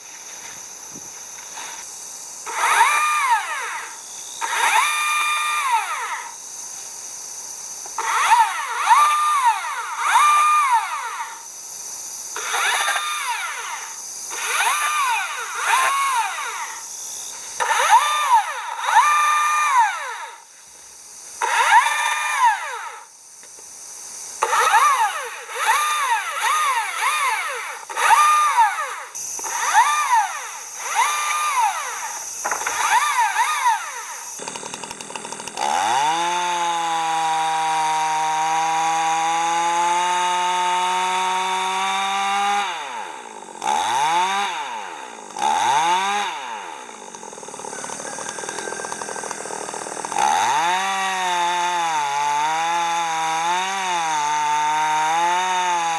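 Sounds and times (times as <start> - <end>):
chainsaw engine revving: 2.4 - 6.4, 7.8 - 11.5, 12.3 - 20.5, 21.4 - 23.1, 24.4 - 55.9.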